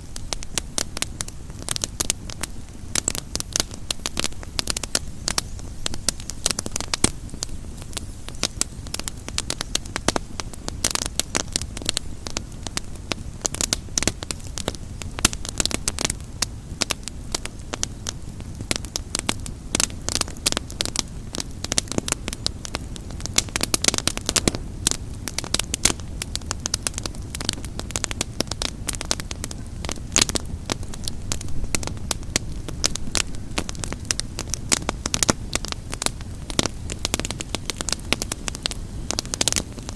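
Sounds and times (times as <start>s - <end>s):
campfire crackling: 0.0s - 39.9s
fire popping and snapping: 0.0s - 39.9s
low rumble of burning: 0.0s - 39.9s.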